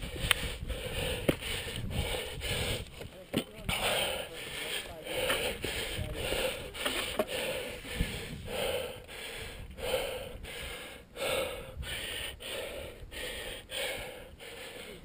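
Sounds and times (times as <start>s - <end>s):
heavy rapid breathing: 0.0s - 15.0s.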